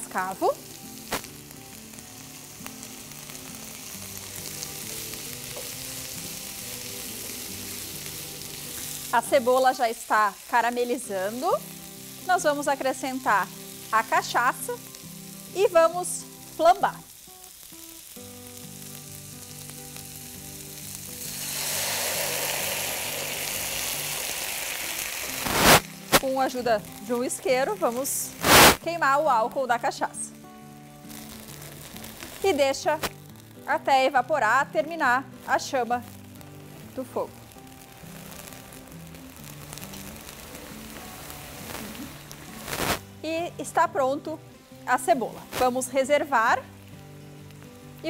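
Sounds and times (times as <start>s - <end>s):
onions sizzling in oil: 0.0s - 48.0s.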